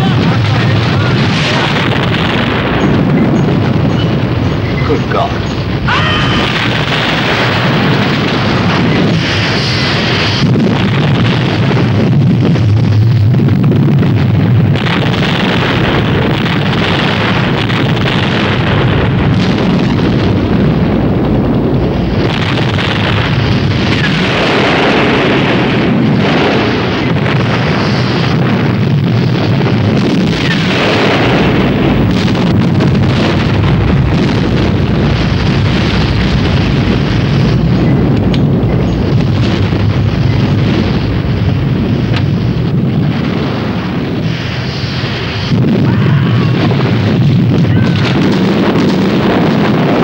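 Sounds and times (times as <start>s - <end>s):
rumble of explosions: 0.0s - 50.0s.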